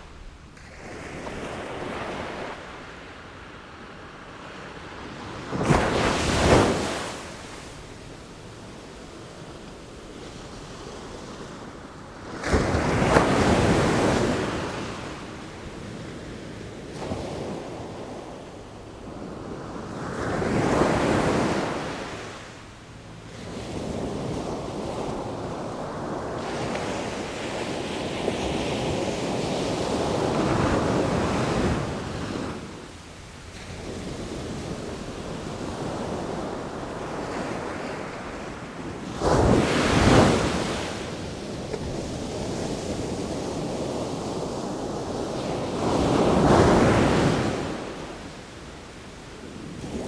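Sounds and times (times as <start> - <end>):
sea waves surging and washing: 0.0 - 50.0.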